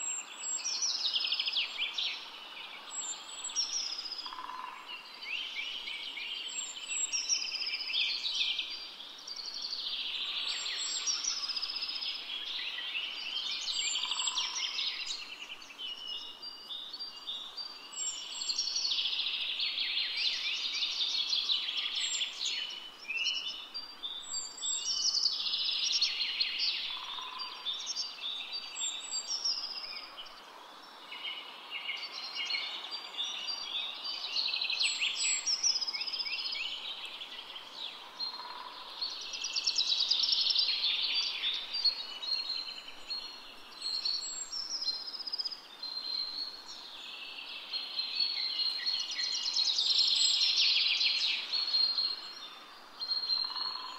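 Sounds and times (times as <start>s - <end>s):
birds singing rapid phrases: 0.0s - 53.9s
faint outdoor hiss: 0.0s - 53.9s.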